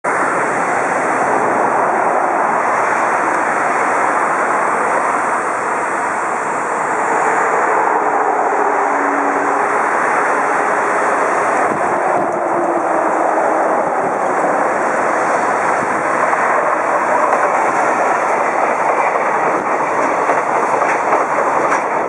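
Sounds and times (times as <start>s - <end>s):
highway traffic rushing: 0.0s - 22.0s.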